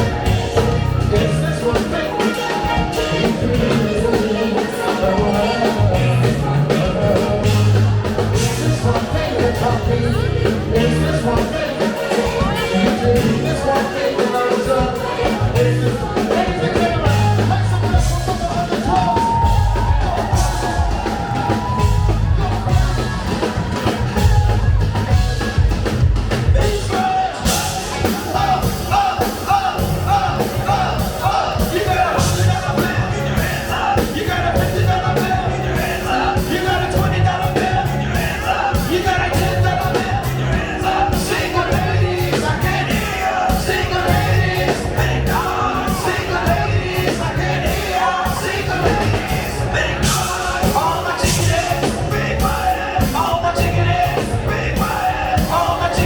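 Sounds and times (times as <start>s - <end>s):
drum kit beat: 0.0s - 56.0s
funk band playing: 0.0s - 56.0s
person singing: 0.0s - 56.0s.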